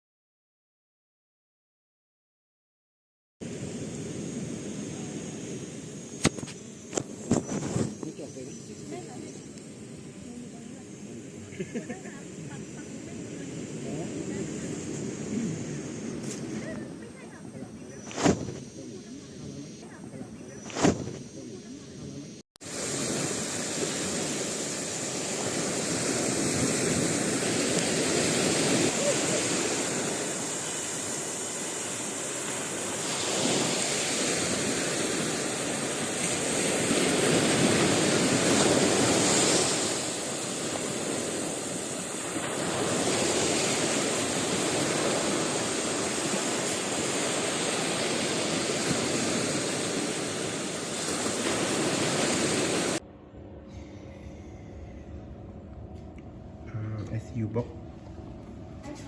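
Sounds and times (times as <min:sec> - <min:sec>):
surf washing onto beach: 0:03.4 - 0:21.9, 0:22.6 - 0:53.0.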